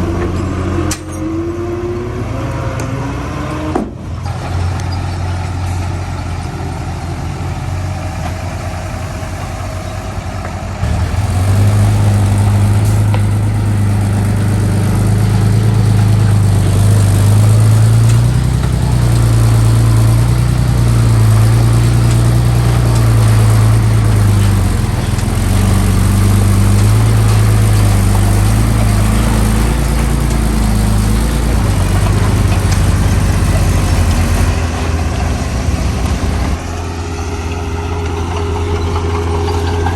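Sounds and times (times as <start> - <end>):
heavy diesel engine working: 0.0 - 39.9.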